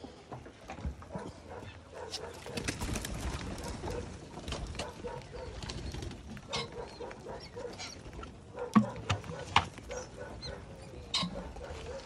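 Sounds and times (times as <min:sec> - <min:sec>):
pheasants soft low calls: 0:01.1 - 0:12.0.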